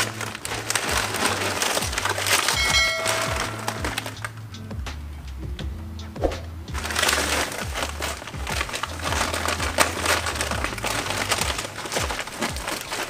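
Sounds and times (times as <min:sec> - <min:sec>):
paper bag crinkling: 0:00.0 - 0:04.3, 0:06.7 - 0:13.0.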